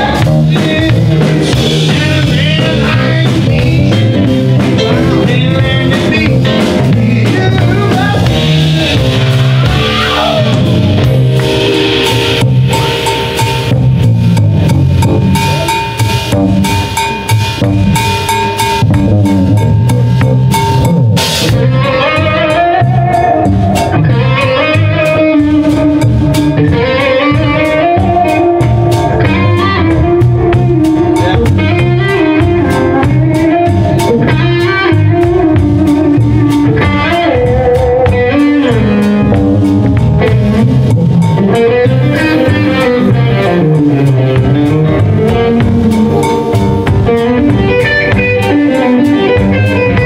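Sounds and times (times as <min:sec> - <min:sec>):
electric guitar lead: 0:00.0 - 0:50.0
live band playing: 0:00.0 - 0:50.0.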